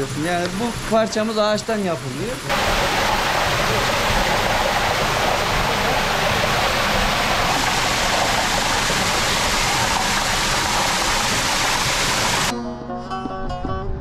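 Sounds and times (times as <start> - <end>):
water splashing onto water wheel: 0.0 - 12.5.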